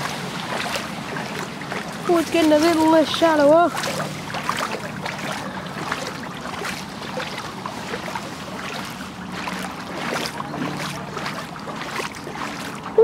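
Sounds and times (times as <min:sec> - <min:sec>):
rushing water: 0:00.0 - 0:13.0
splashing through shallow water: 0:00.0 - 0:13.0.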